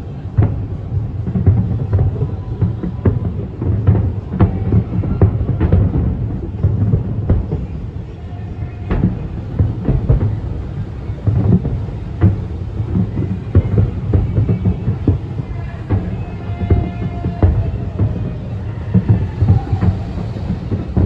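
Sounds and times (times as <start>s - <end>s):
fireworks booming and banging: 0.0s - 21.0s.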